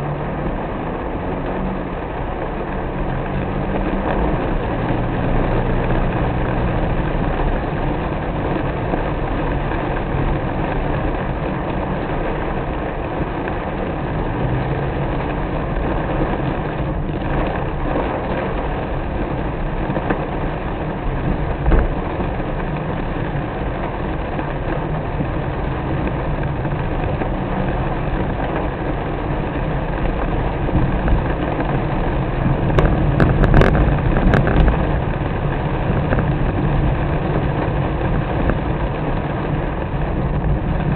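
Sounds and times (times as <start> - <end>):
car engine hum: 0.0 - 40.9
road and rain noise: 0.0 - 40.9.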